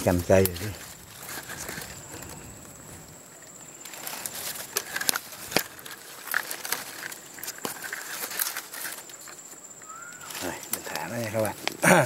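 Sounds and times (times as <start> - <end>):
dry leaves rustling: 0.0 - 12.0.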